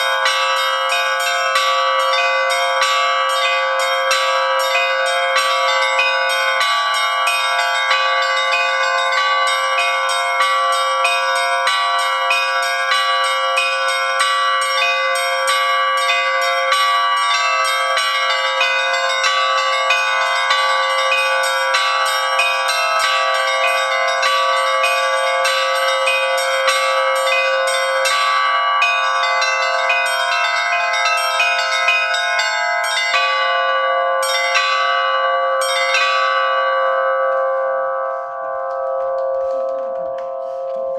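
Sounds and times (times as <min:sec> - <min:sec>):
large bells ringing: 0:00.0 - 0:40.9
rapid strikes on small bells: 0:00.0 - 0:40.9.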